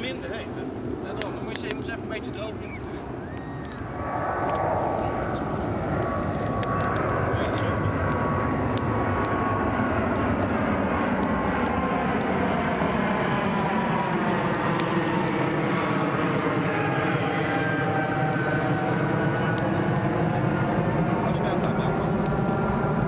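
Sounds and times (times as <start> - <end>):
airplane engine hum overhead: 0.0 - 23.0
campfire crackling: 0.0 - 23.0.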